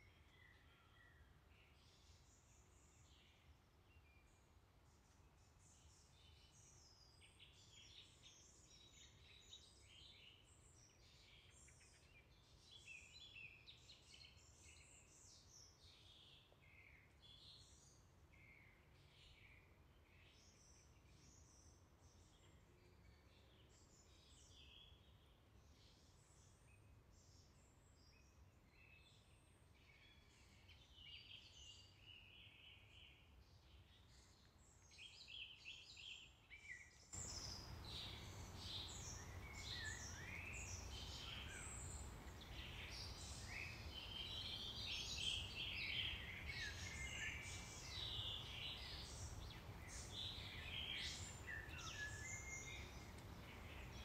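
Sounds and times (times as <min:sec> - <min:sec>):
low background noise: 0:00.0 - 0:54.0
small birds chirping: 0:00.0 - 0:54.0.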